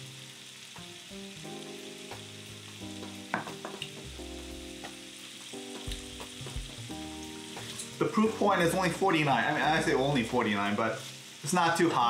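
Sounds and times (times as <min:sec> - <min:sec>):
meat sizzling on a grill pan: 0:00.0 - 0:12.0
soft background music: 0:00.0 - 0:12.0.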